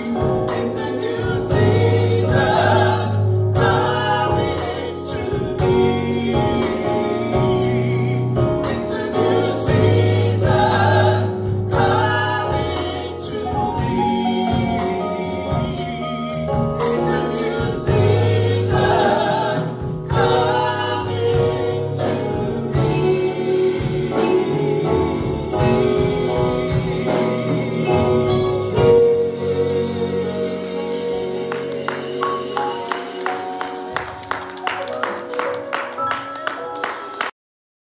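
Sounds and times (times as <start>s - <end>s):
voices singing in harmony: 0.0s - 35.4s
gospel band playing: 0.0s - 37.3s.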